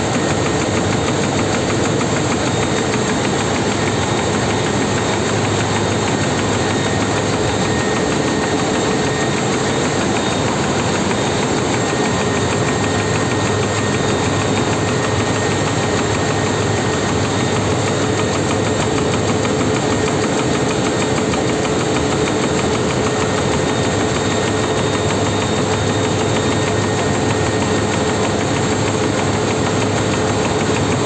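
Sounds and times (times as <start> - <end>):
constant machinery whine: 0.0 - 31.0.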